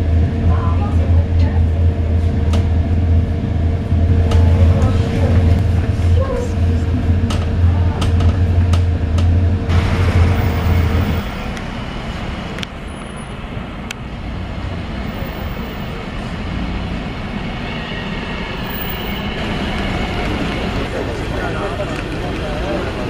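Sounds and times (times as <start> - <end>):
traffic noise: 0.0 - 23.0
train humming: 0.0 - 23.0
tram pulling up: 0.0 - 23.0.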